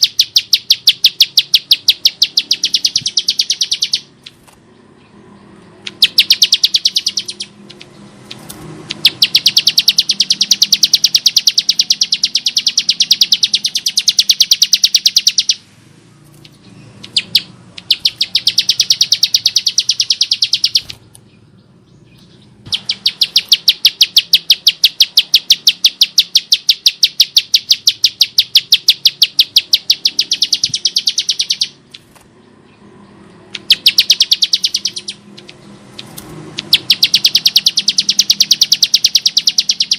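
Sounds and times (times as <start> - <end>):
bird chattering song: 0.0 - 15.7, 16.3 - 39.9.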